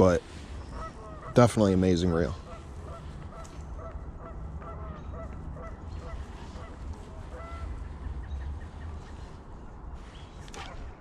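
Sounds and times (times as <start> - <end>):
geese honking: 0.0 - 9.4
steady low rumble: 0.0 - 11.0.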